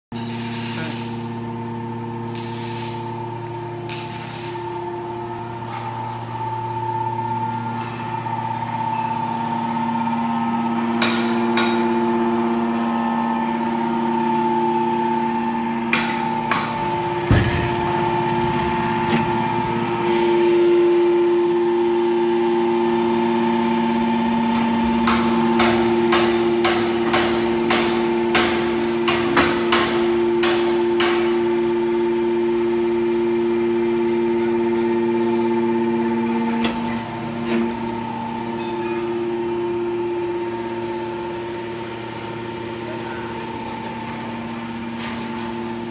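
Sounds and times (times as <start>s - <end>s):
hydraulic power unit humming: 0.1s - 45.9s.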